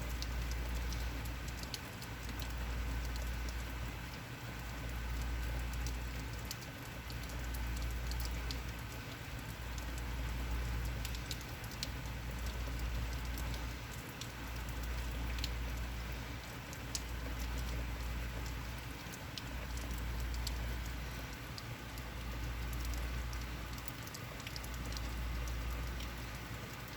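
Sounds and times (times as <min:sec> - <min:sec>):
drops ticking close by: 0:00.0 - 0:26.9.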